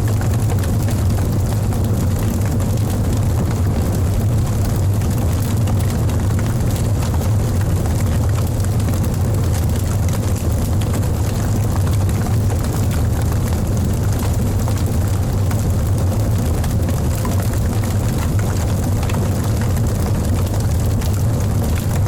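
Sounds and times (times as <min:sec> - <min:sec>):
fire crackling: 0:00.0 - 0:22.0
low rumble of flames: 0:00.0 - 0:22.0.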